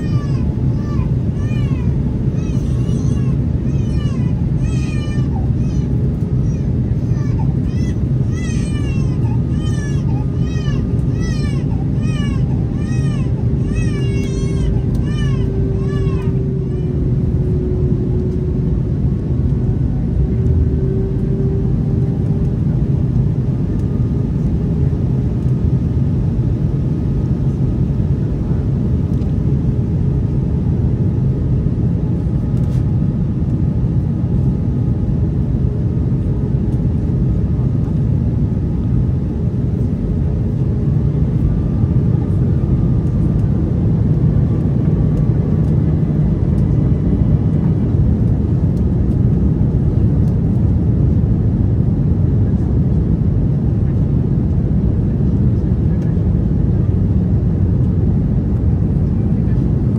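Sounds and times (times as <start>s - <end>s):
airplane cabin engine noise: 0.0s - 59.9s
faint steady hums: 0.0s - 59.9s.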